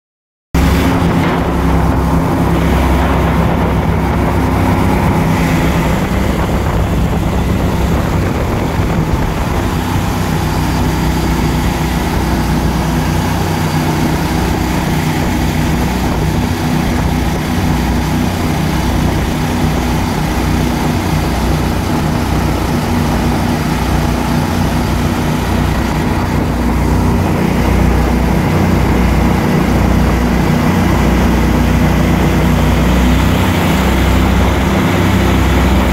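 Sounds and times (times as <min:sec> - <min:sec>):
outboard motor running: 0:00.6 - 0:35.9
water rushing along hull: 0:00.6 - 0:35.9.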